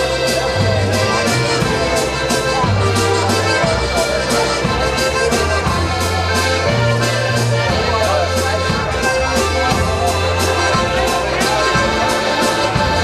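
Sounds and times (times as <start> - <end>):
accordions playing a waltz: 0.0 - 13.0
cymbal and drum beat: 0.0 - 13.0
low bass notes: 0.0 - 13.0.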